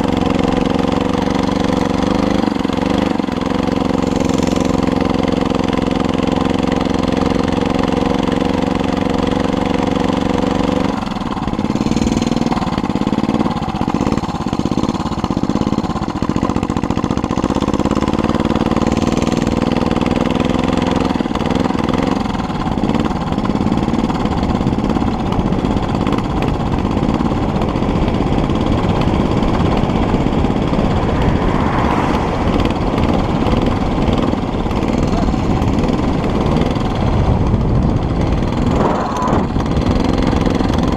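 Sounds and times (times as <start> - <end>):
small motorized bicycle engine: 0.0 - 40.9.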